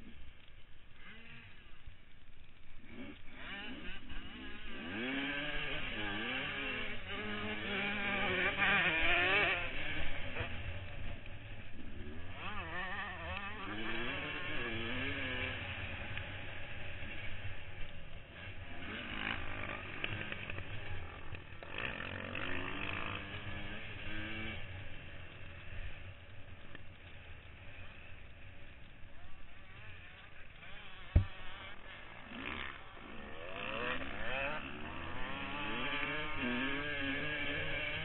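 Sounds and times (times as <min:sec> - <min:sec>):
dirt bike engine revving: 0:01.0 - 0:01.8, 0:02.5 - 0:38.0.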